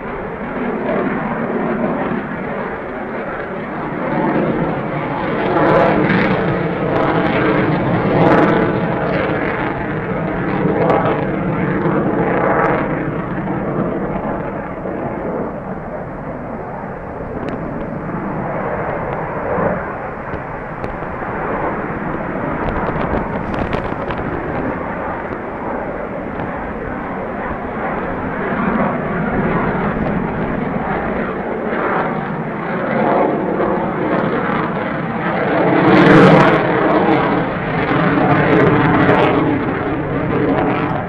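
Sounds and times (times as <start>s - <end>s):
distant jet engine rumble: 0.0s - 41.0s.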